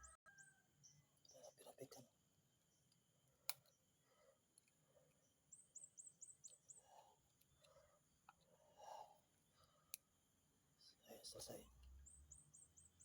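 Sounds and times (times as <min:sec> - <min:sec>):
small bird chirping: 0:00.0 - 0:10.1, 0:10.7 - 0:13.0.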